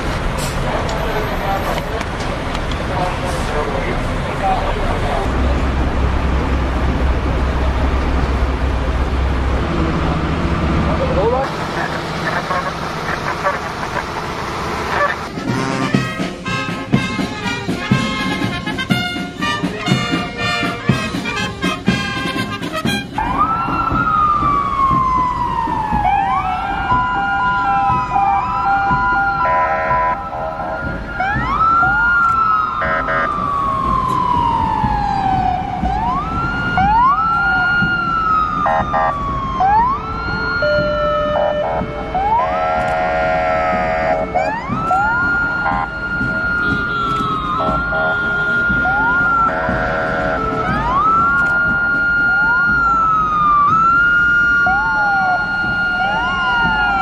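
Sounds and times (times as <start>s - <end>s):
engine rumble: 0.0s - 57.0s
fire engine sirens wailing: 0.0s - 57.0s.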